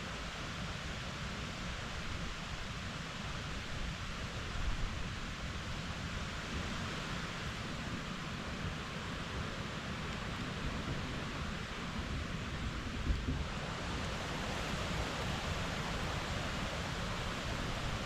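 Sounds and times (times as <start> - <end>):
strong wind through woods: 0.0 - 18.0
wind rumble on microphone: 0.0 - 18.0.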